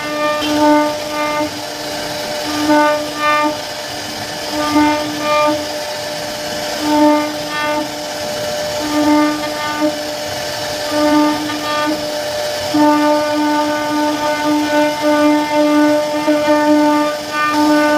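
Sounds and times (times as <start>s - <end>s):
hiss of wood cutting: 0.0s - 17.9s
router spindle whining: 0.0s - 17.9s.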